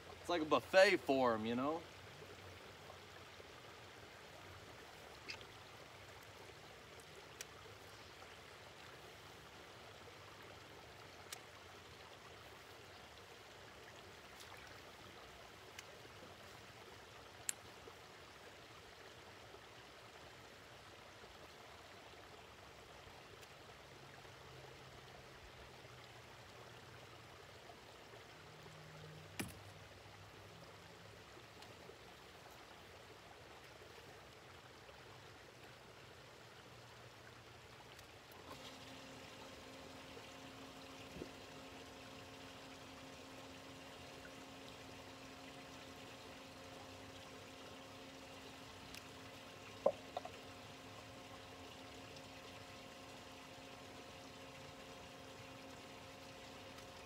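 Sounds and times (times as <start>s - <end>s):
faint rush of running water: 0.0s - 57.0s.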